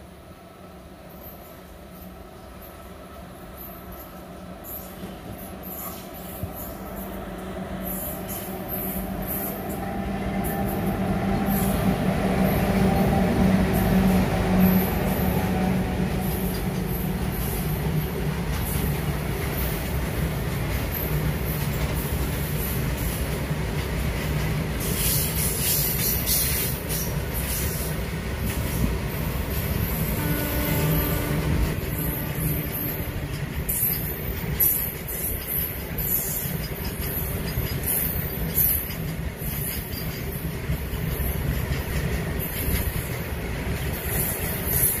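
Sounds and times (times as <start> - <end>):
locomotive hum: 0.0 - 45.0
train wheels rumbling and clattering: 0.7 - 45.0.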